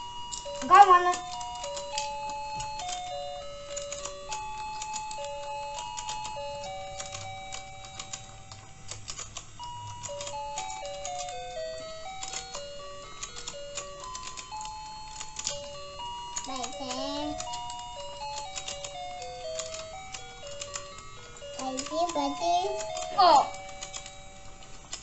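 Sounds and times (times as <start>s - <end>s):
electronic beeping toy tune: 0.0s - 8.9s, 9.5s - 24.8s
plastic toy clicks and rattles: 0.0s - 25.0s.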